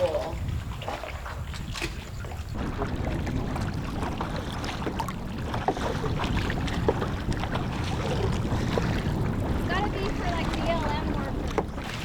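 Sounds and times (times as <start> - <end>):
water splashing and dripping: 0.0 - 12.0
wind rumble on microphone: 0.0 - 12.0.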